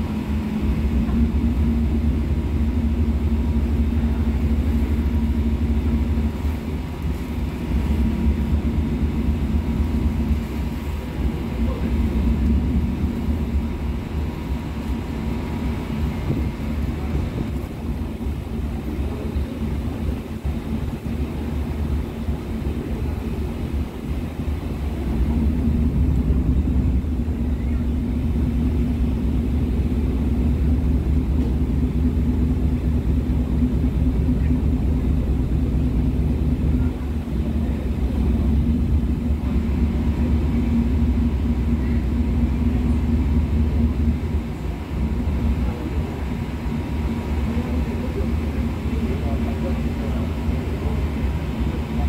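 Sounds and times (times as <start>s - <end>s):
ferry engine rumbling: 0.0s - 52.0s.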